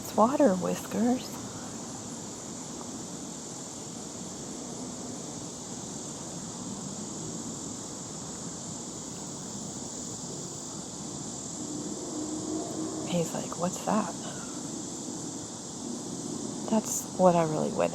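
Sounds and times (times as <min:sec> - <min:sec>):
insect chorus shrilling: 0:00.0 - 0:17.9.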